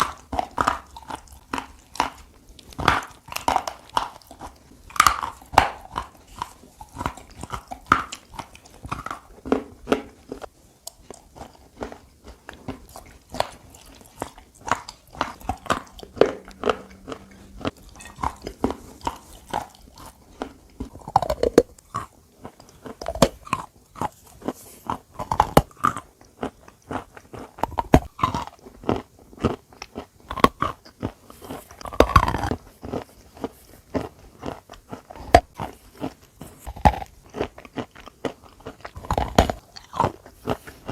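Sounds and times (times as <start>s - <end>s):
person crunching chalk while chewing: 0.0s - 40.9s.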